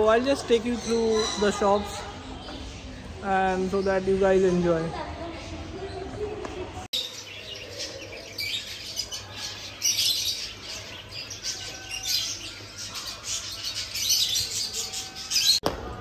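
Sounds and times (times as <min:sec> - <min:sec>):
caged birds chirping and squawking: 0:00.0 - 0:16.0.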